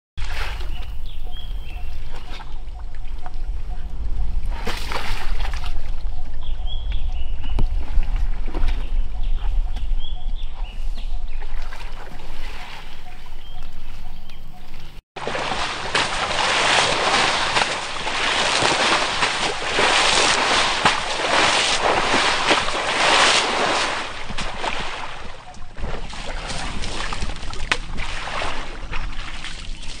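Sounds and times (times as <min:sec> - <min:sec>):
muddy water splashing: 0:00.2 - 0:30.0.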